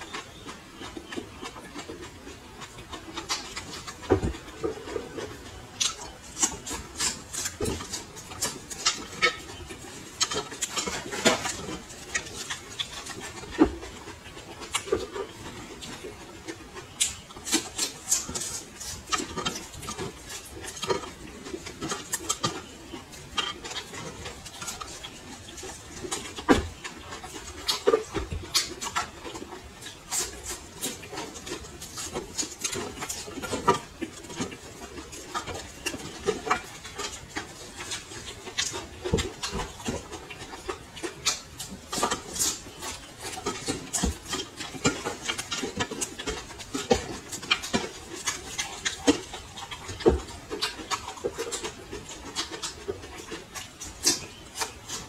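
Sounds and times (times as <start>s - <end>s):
crunching and chewing chillies: 0.0s - 55.0s.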